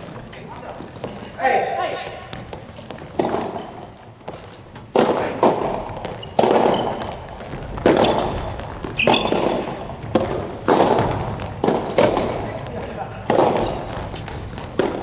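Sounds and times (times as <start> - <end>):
balls bouncing on court: 0.0 - 15.0
tennis balls hit by rackets: 0.0 - 15.0.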